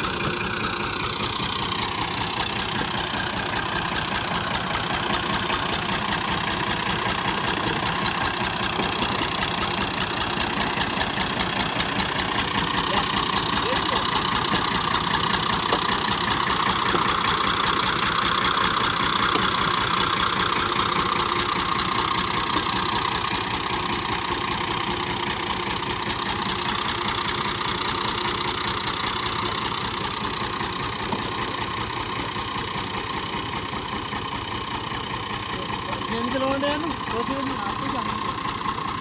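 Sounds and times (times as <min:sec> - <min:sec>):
tractor diesel engine idling: 0:00.0 - 0:39.0.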